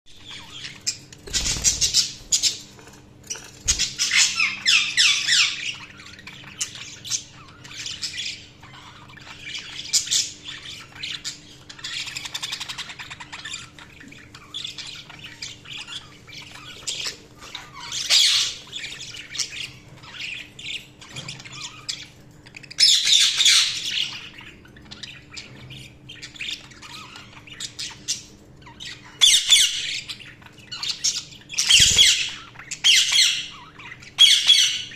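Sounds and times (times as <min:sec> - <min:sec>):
budgerigars chirping and squawking: 0:00.1 - 0:34.9
faint steady hum: 0:00.1 - 0:34.9.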